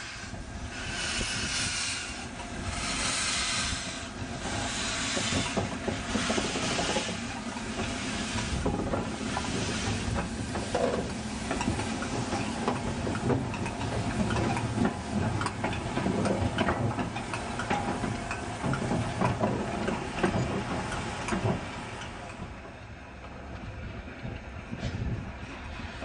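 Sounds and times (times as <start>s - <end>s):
steam hissing: 0.0s - 21.7s
locomotive rods clanking: 0.9s - 22.8s.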